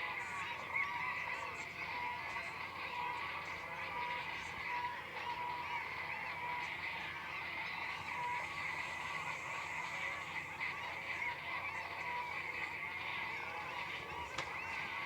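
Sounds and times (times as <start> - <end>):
chorus of honking animal calls: 0.0 - 15.0.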